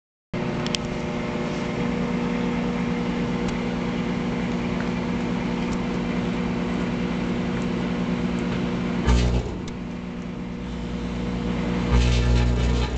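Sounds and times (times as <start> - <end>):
microwave oven humming: 0.4 - 12.9.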